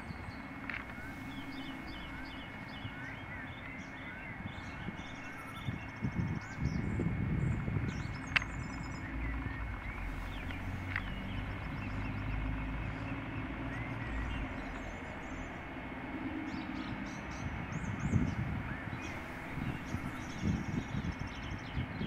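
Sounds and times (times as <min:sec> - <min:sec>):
distant traffic rumble: 0:00.0 - 0:22.0
small birds chirping: 0:00.0 - 0:22.0.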